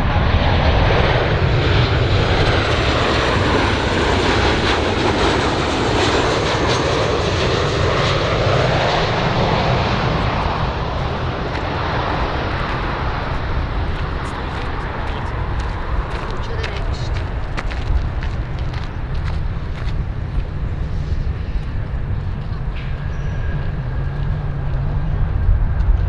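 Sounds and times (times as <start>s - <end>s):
airplane engine rushing: 0.0s - 26.0s.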